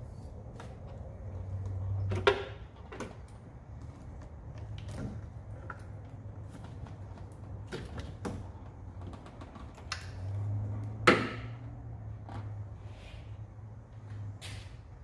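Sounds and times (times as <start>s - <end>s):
tools and engine parts clicking: 0.1s - 12.6s.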